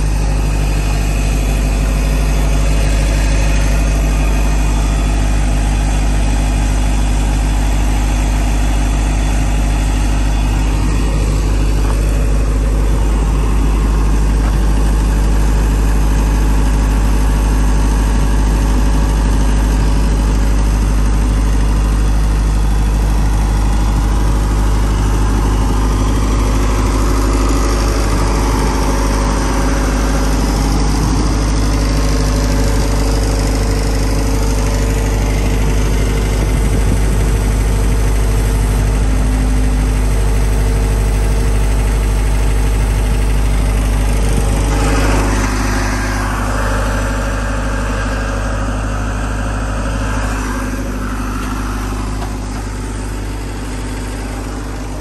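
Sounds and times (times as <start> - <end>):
diesel engine running loudly: 0.0 - 55.0.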